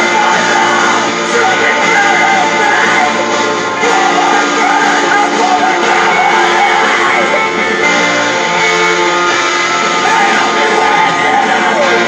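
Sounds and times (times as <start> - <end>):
electric guitar: 0.0 - 12.0
heavy rock music: 0.0 - 12.0
person singing: 0.0 - 12.0.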